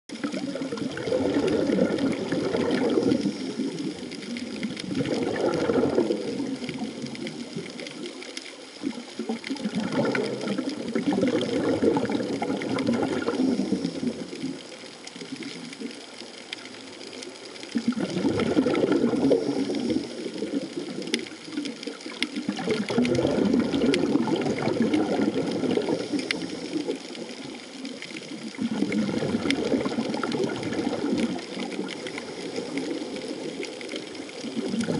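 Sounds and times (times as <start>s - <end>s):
underwater bubbling and rushing: 0.1s - 34.9s.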